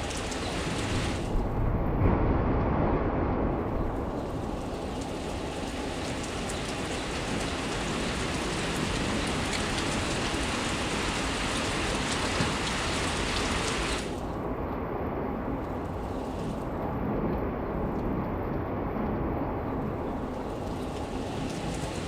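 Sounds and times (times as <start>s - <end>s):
heavy rain falling: 0.0s - 2.7s, 3.3s - 22.0s.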